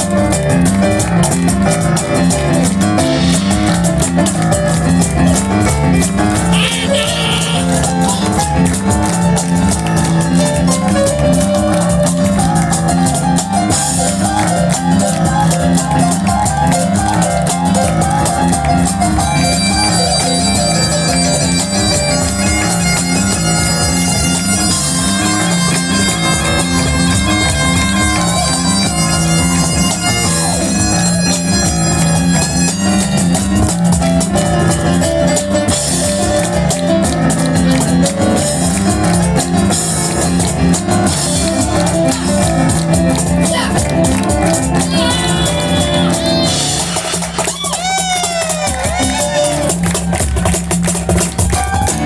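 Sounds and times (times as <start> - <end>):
drums: 0.0 - 52.0
piano: 0.0 - 52.0.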